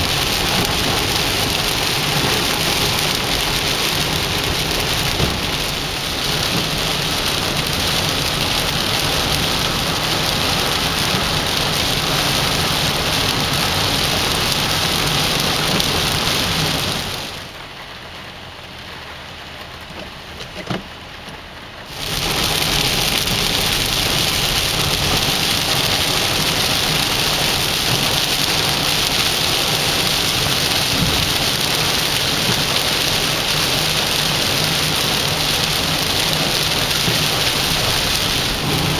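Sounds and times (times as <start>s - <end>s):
heavy rain hissing: 0.0s - 17.7s, 21.8s - 38.9s.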